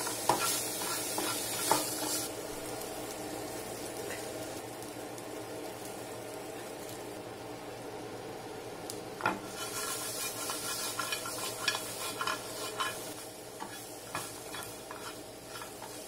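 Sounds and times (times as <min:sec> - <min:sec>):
fish sizzling in a frying pan: 0:00.0 - 0:07.2, 0:09.2 - 0:16.0.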